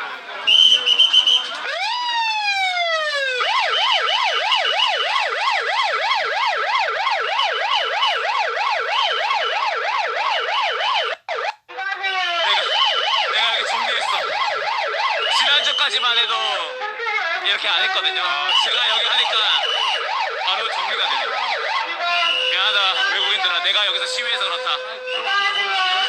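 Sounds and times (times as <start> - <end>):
police car siren: 0.0 - 26.0.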